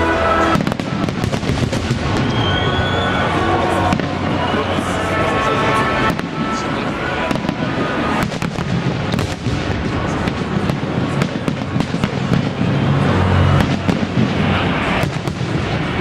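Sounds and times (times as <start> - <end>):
firework crackles and pops: 0.5 - 5.1, 6.0 - 16.0.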